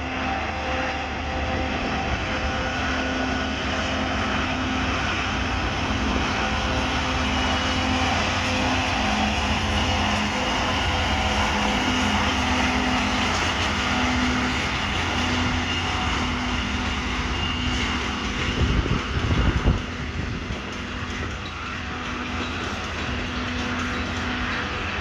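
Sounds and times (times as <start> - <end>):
locomotive engine drone: 0.0 - 25.0.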